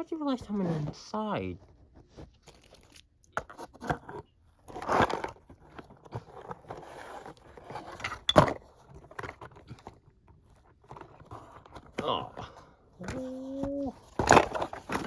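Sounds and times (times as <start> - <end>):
rustling and crinkling handling noise: 0.0 - 15.0.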